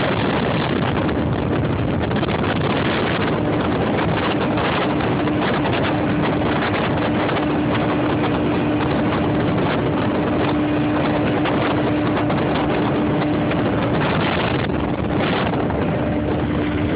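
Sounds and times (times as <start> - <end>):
motorboat engine droning: 0.0 - 16.9.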